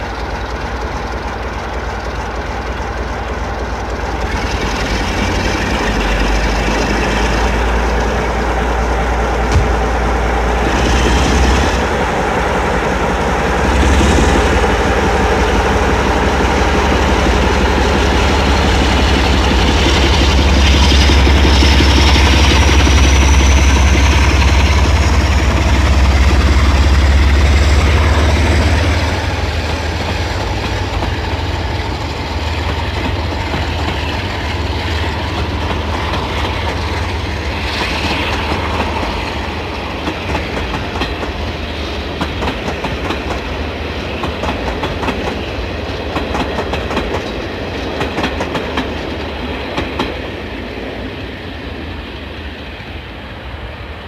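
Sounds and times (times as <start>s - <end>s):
diesel locomotive engine: 0.0s - 54.0s.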